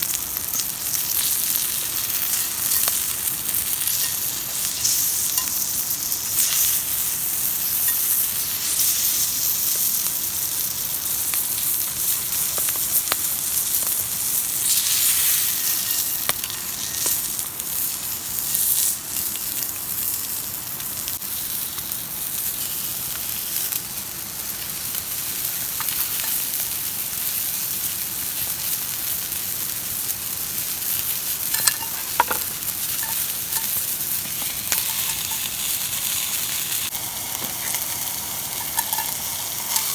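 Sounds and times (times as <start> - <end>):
food sizzling on a griddle: 0.0 - 39.9.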